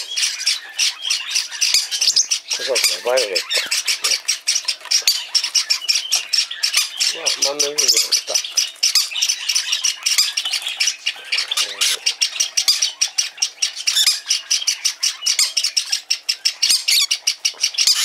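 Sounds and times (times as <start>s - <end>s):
bird chick raspy squawks: 0.0s - 18.0s.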